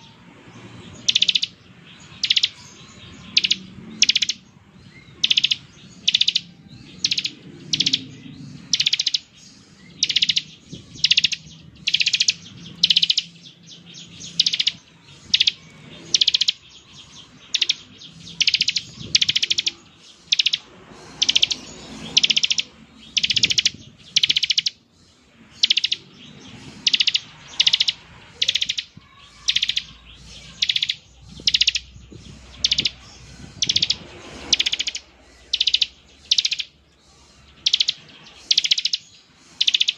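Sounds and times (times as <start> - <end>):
bird giving buzzy trills: 0.0 - 39.9.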